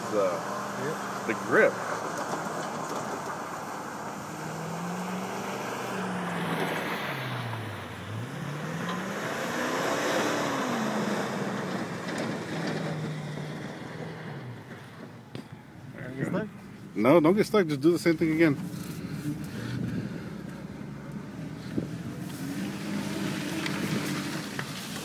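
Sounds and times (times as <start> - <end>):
truck engine revving: 0.0 - 15.2, 17.8 - 25.0
wind and tyre noise: 0.0 - 25.0.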